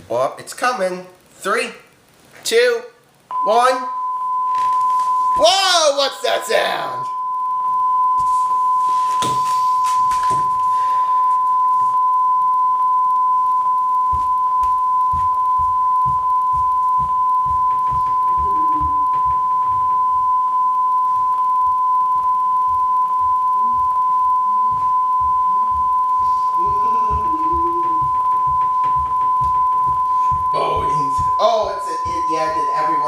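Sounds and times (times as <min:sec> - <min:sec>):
continuous beep tone: 0:03.3 - 0:33.0.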